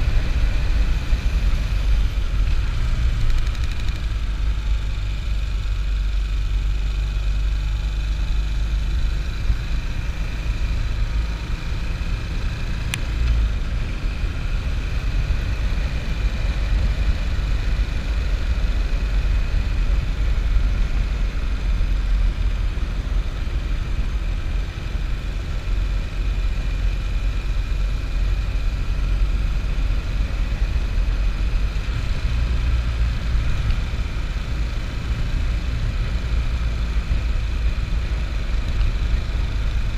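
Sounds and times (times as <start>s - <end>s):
motorcycle engine rumble: 0.0s - 39.9s.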